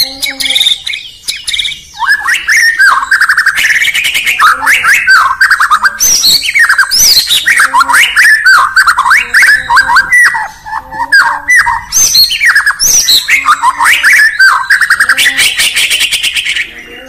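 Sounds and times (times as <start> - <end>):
songbird whistling and trilling: 0.0 - 17.0.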